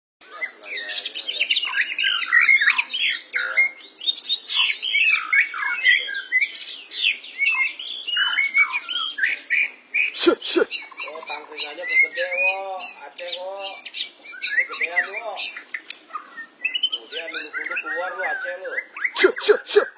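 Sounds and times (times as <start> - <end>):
birds singing whistled phrases: 0.2 - 19.9.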